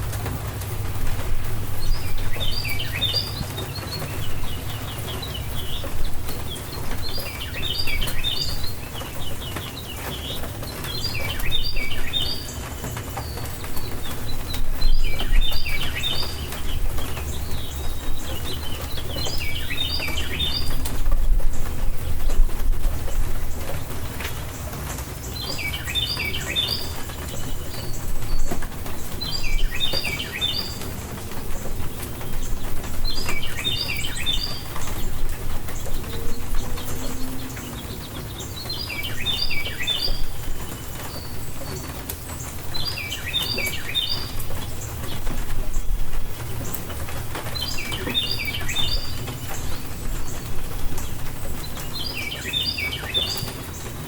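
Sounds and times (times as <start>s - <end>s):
steady rain: 0.0s - 54.0s
songbird phrase: 1.7s - 54.0s.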